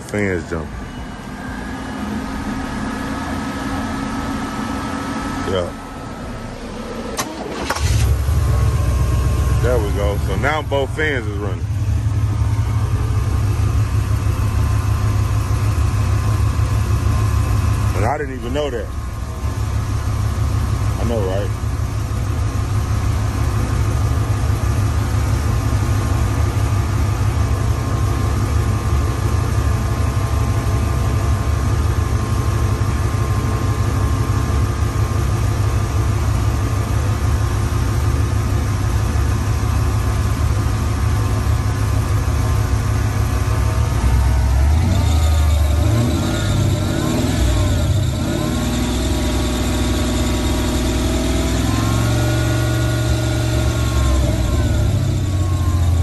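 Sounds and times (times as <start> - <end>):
radiator fans running: 0.0 - 56.0
truck engine idling: 0.0 - 56.0.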